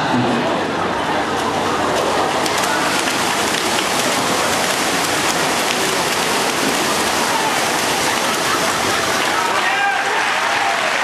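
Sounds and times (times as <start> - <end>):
crowd cheering: 0.0 - 11.0
swimmers splashing: 0.0 - 11.0.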